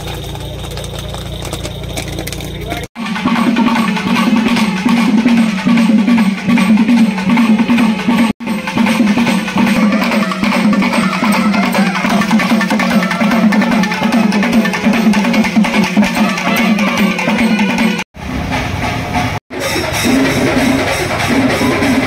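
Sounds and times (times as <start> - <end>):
barrel drums beating rapidly: 0.0 - 18.0, 19.2 - 22.0.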